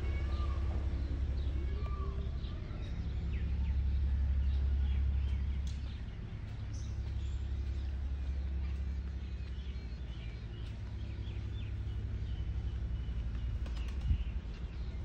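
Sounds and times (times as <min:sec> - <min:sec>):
birds chirping: 0:00.0 - 0:15.0
low rumble: 0:00.0 - 0:15.0.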